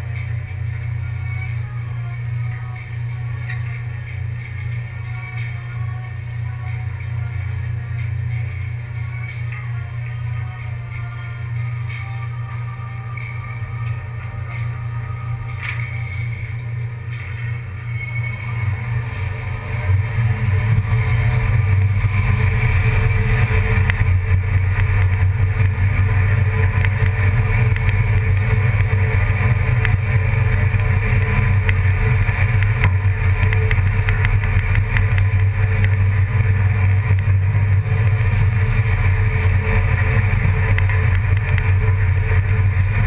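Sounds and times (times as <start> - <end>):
engine droning: 0.0 - 43.0.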